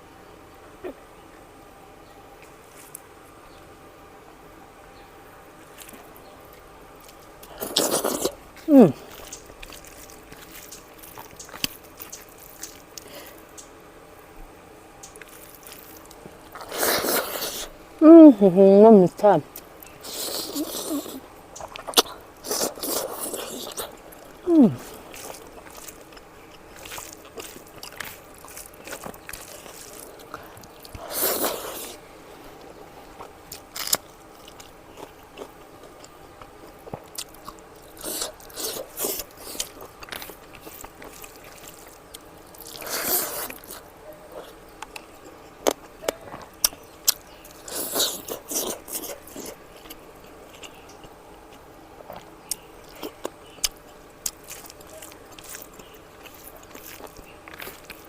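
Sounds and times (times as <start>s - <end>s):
person chewing food: 5.5s - 17.8s, 19.5s - 58.0s.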